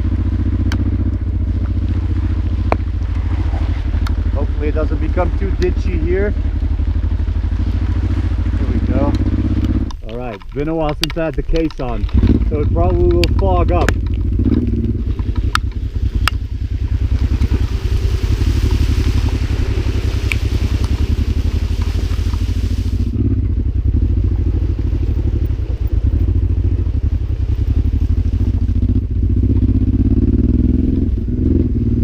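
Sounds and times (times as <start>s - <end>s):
motorcycle engine throbbing: 0.0s - 32.0s.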